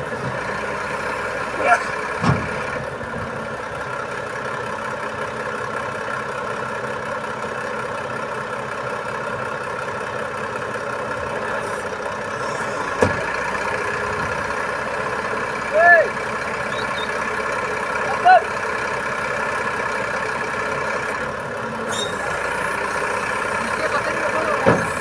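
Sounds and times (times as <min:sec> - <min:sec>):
heavy truck engine idling: 0:00.0 - 0:25.0.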